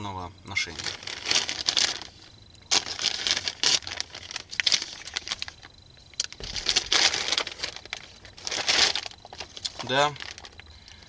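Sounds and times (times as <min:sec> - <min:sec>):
plastic bag crinkling: 0:00.6 - 0:10.7.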